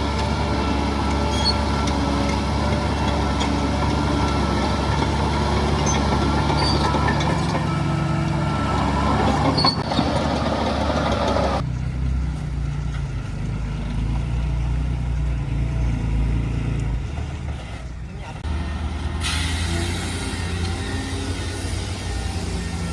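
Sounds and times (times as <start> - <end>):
low diesel engine rumble: 0.0 - 22.9.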